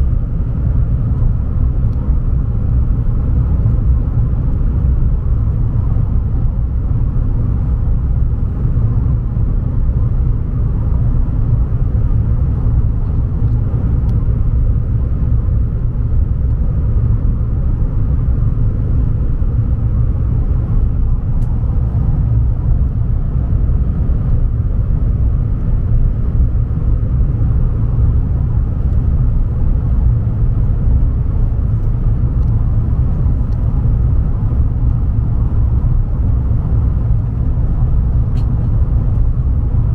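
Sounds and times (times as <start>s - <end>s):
train rumbling inside carriage: 0.0s - 39.9s.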